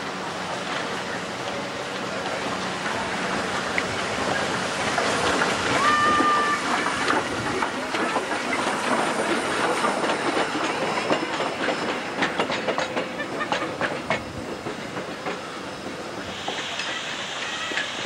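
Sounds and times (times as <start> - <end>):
steam hissing: 0.0 - 18.0
train wheels clanking: 0.5 - 18.0.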